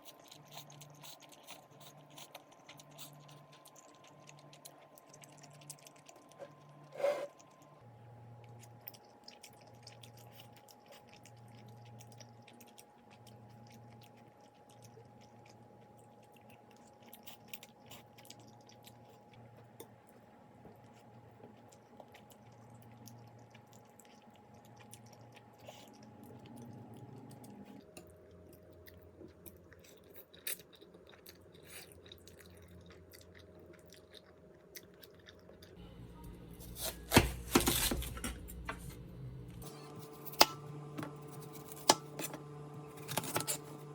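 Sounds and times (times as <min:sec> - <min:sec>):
person chewing and crunching food: 0:00.0 - 0:39.0, 0:39.6 - 0:43.9
faint steady hum: 0:00.0 - 0:43.9.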